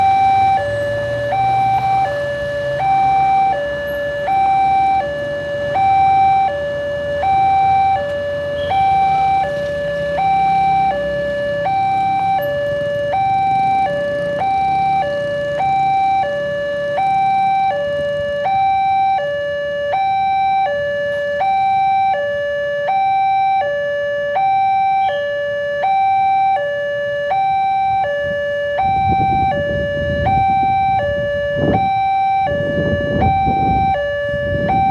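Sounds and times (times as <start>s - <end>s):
two-tone warning alarm: 0.0s - 34.9s.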